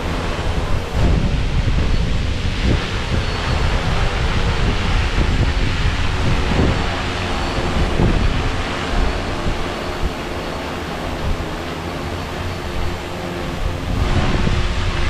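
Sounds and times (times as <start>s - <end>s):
drone propellers humming: 0.0s - 15.0s
wind buffeting microphone: 0.0s - 15.0s.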